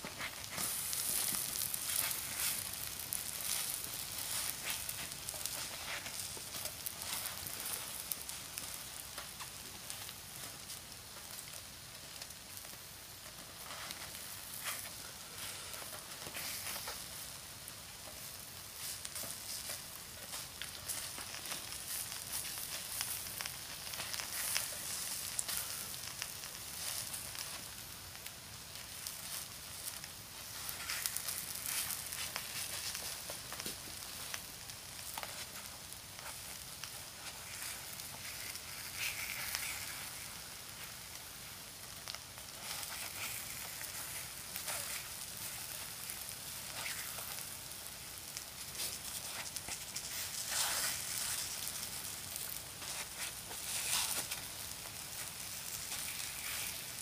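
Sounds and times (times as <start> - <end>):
batter sizzling: 0.0 - 57.0.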